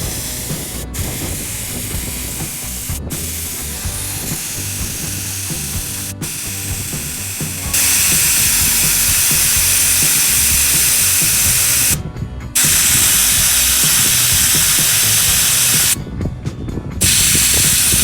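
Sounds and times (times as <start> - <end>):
air hissing out of tyre: 0.0 - 12.0, 12.6 - 16.0, 17.0 - 18.0.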